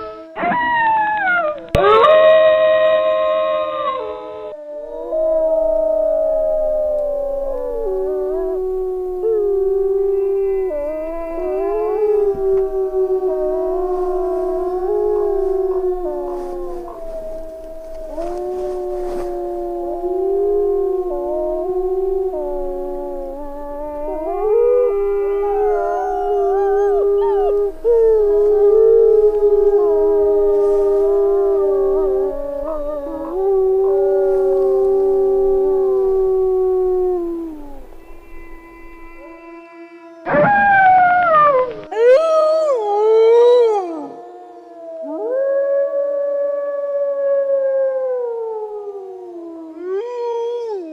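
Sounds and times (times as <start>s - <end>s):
wolves howling in chorus: 0.0s - 39.5s, 40.2s - 50.9s.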